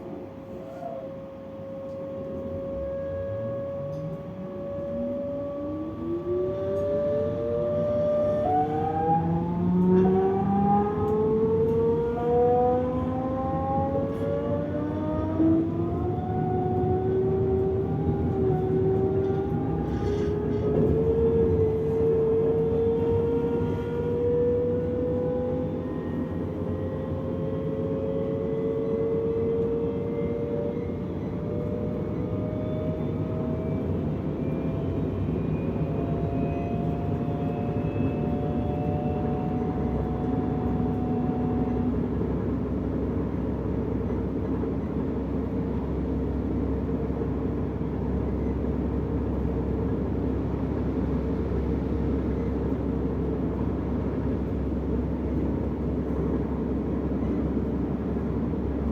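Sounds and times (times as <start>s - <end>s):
train rumbling on track: 0.0s - 58.9s.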